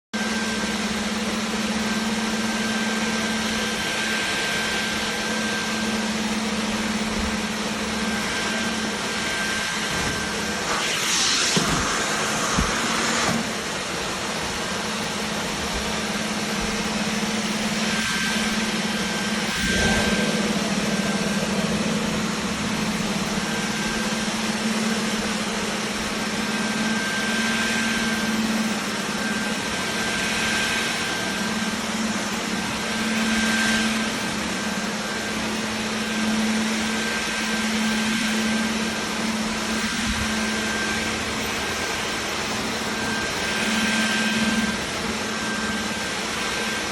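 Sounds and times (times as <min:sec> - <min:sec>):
cordless vacuum cleaner running: 0:00.2 - 0:46.9.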